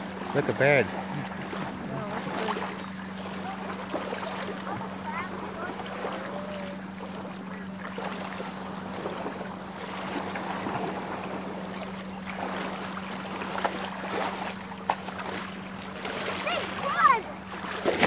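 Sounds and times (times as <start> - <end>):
sea water sloshing and lapping: 0.0 - 18.0
steady low hum: 0.0 - 18.0.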